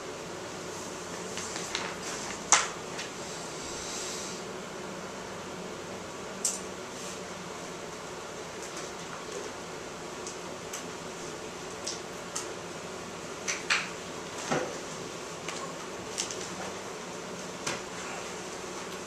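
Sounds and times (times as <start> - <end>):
ventilation hum: 0.0 - 19.0.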